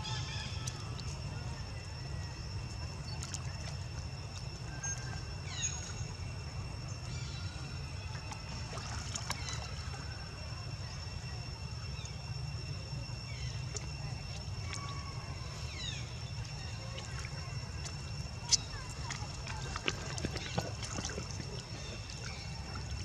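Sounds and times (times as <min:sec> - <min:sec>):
constant high whine: 0:00.0 - 0:23.0
water sloshing and splashing: 0:00.5 - 0:07.1, 0:07.7 - 0:23.0.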